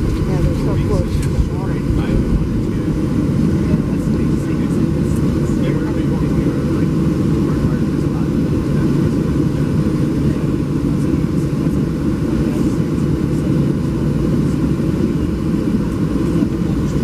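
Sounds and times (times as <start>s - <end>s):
jet cabin engine rumble: 0.0s - 17.0s.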